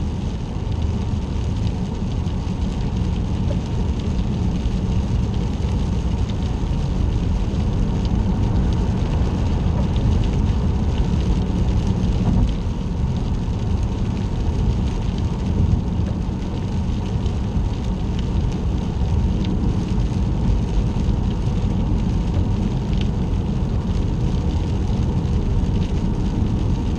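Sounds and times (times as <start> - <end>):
rain ticking on windshield: 0.0 - 26.9
road and tyre noise: 0.0 - 26.9.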